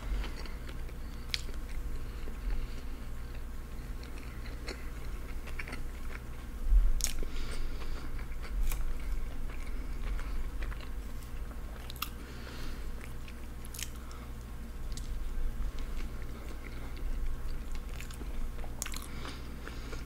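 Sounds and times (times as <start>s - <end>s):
biting and chewing sandwich: 0.1s - 20.0s.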